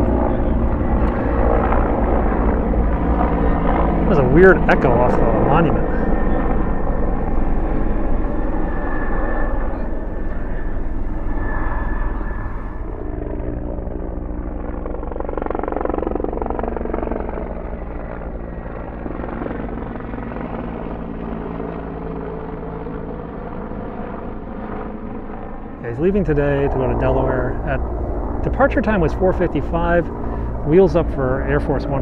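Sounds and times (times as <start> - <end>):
helicopter flying overhead: 0.0 - 32.0.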